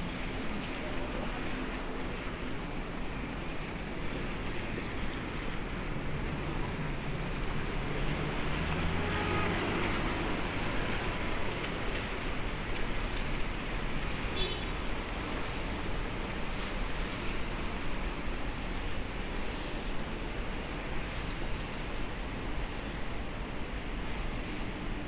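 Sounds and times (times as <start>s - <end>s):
traffic hum: 0.0s - 25.0s
tyres hissing on wet asphalt: 0.0s - 25.0s.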